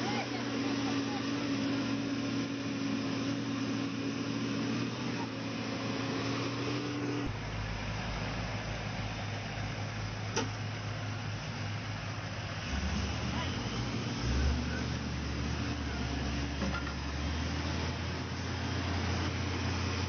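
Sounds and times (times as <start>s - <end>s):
heavy equipment engine running: 0.0s - 20.0s.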